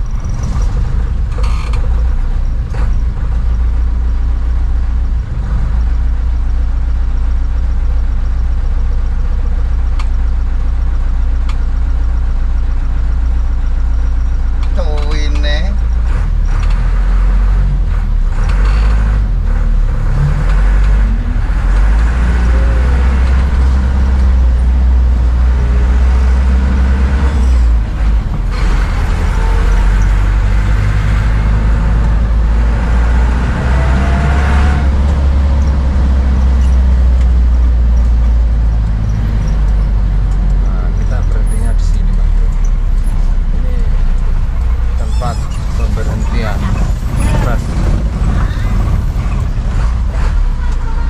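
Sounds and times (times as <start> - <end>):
bus engine and road rumble: 0.0 - 51.0.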